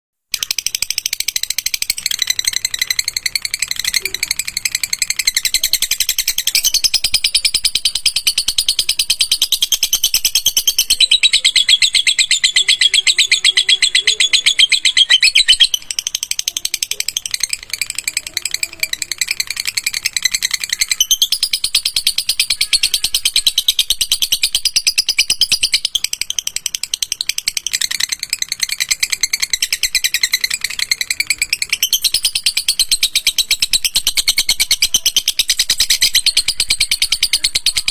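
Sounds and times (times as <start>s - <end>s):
lovebird rapid trill: 0.3s - 37.9s.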